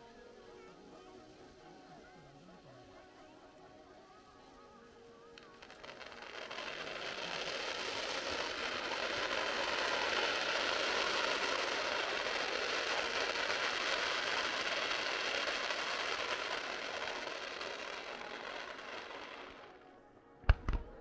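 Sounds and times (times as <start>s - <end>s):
fireworks crackling: 0.8s - 21.0s.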